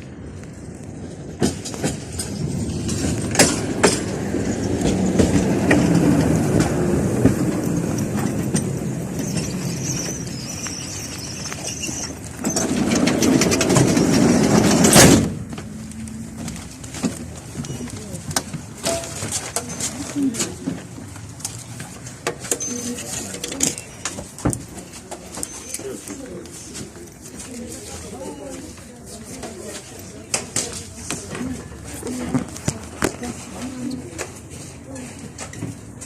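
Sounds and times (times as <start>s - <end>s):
tram rumbling along track: 0.0s - 36.0s
wheels clicking over rail joints: 0.0s - 36.0s.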